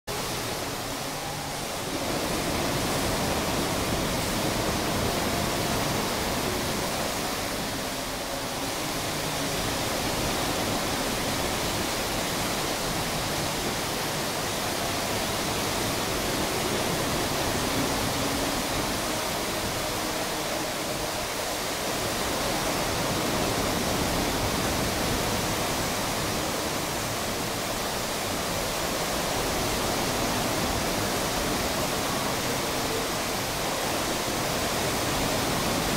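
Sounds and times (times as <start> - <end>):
waterfall pouring into pool: 0.1 - 35.9.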